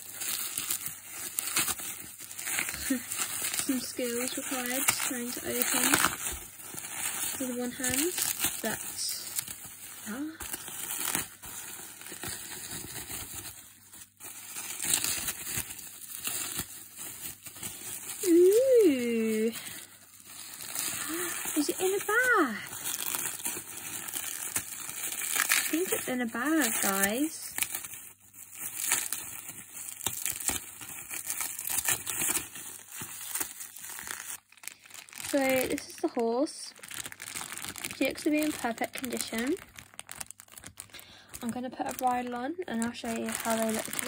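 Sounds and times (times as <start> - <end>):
bubble wrap crinkling: 0.0 - 44.0.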